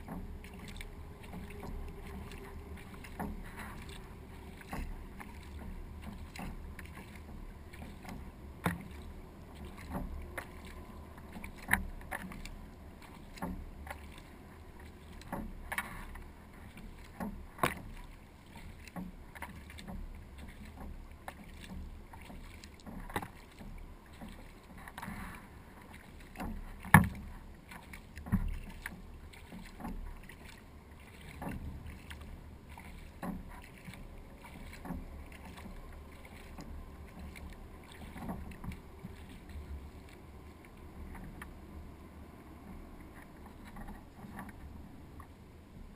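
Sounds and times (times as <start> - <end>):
paddle splashes and drips: 0.0 - 45.9.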